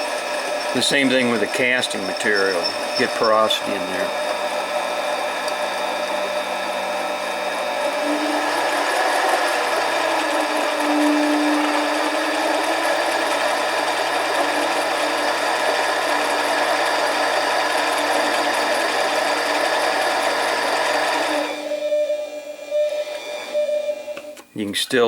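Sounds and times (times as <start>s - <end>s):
lathe motor whining: 0.0s - 24.5s.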